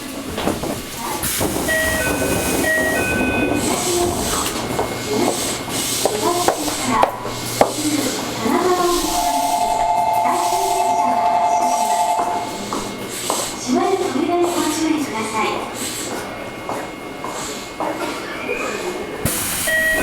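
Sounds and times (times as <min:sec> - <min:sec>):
train hum and hiss: 0:00.0 - 0:20.0.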